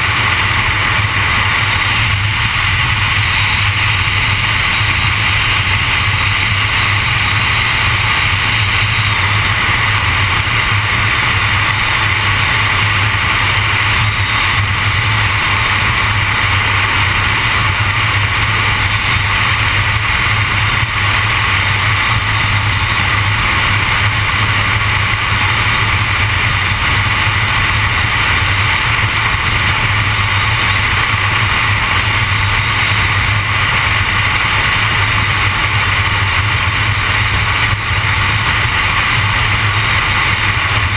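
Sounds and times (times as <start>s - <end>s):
low hum: 0.0s - 40.9s
wind noise: 0.0s - 40.9s.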